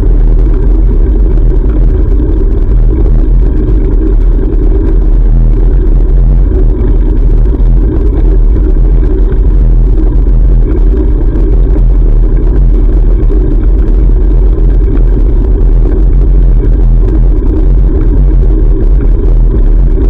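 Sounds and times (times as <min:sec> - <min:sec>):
low wind rumble on microphone: 0:00.0 - 0:20.0.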